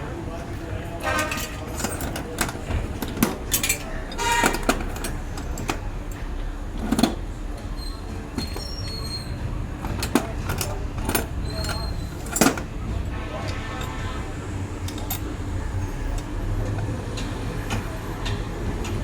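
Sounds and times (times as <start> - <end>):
hard parts knocking and clinking: 0.8 - 19.0.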